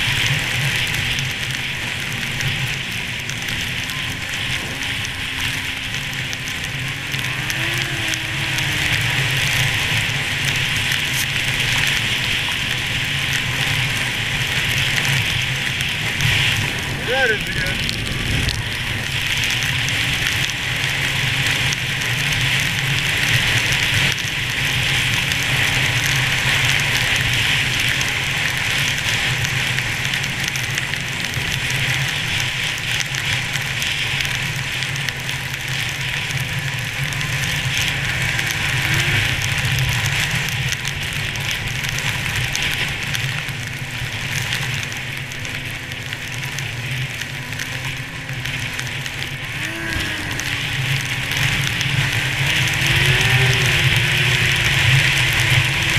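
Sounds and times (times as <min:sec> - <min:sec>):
snowmobile engine running: 0:00.0 - 0:55.9
wind and blowing snow hiss: 0:00.0 - 0:55.9.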